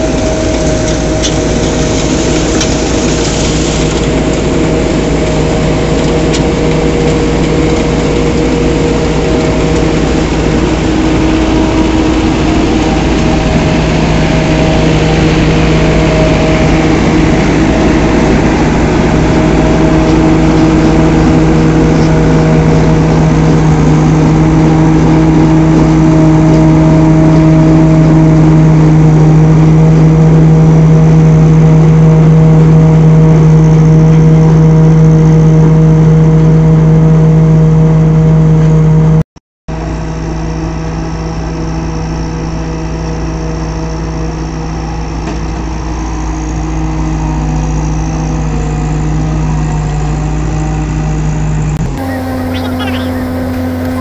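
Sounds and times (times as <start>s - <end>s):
combine harvester engine humming: 0.0s - 54.0s.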